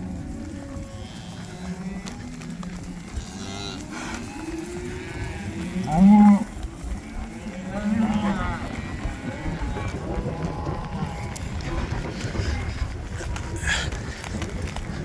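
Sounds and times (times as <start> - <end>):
cattle mooing: 0.0 - 12.6.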